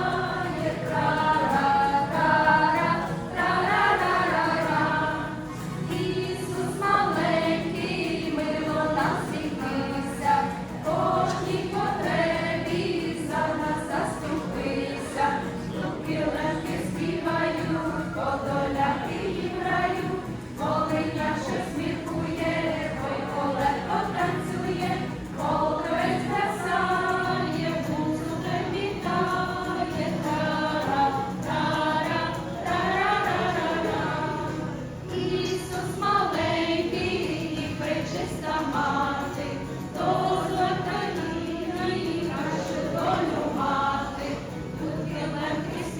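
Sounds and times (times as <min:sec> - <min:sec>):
choir singing: 0:00.0 - 0:45.9.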